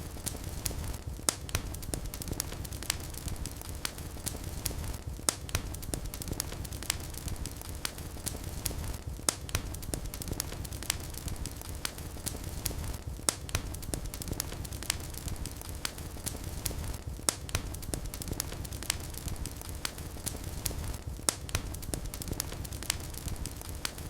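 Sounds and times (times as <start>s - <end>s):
low rumble of flame: 0.0s - 24.0s
wood fire crackling and popping: 0.0s - 24.0s.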